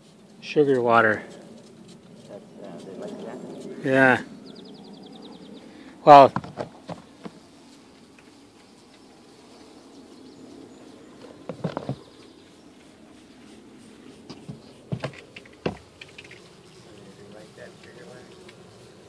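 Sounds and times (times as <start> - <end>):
bees humming: 0.0 - 19.0.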